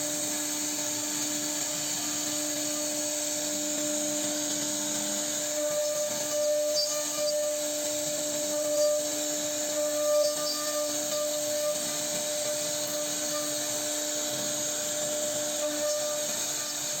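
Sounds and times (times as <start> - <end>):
router cutting wood: 0.0 - 17.0
router spindle whine: 0.0 - 17.0.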